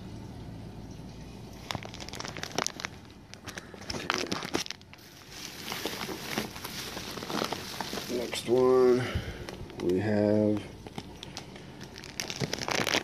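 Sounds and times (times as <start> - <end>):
plastic bags crinkling: 1.5 - 13.0.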